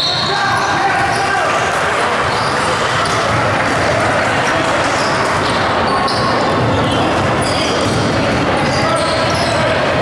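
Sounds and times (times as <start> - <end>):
voices in a hall: 0.0 - 10.0.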